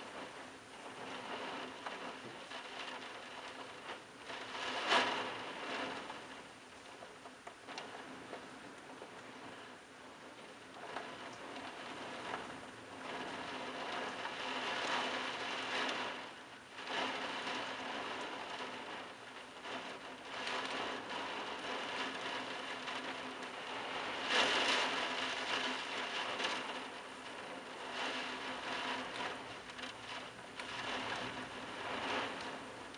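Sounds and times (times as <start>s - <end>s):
heavy rain on tiled roofs: 0.0s - 32.9s.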